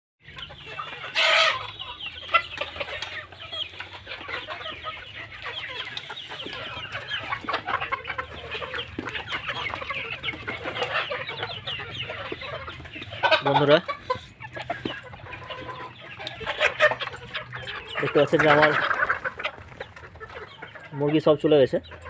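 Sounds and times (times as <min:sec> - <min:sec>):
hens clucking: 0:00.2 - 0:22.0
beaks pecking a steel bowl: 0:02.4 - 0:20.6.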